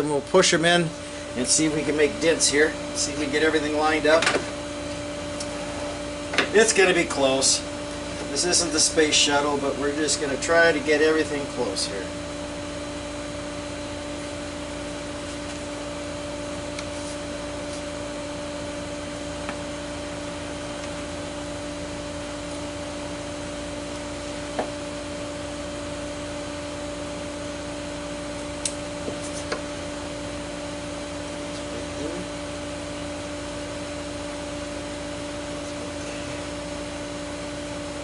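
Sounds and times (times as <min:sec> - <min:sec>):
air conditioner hum: 0:00.0 - 0:38.0.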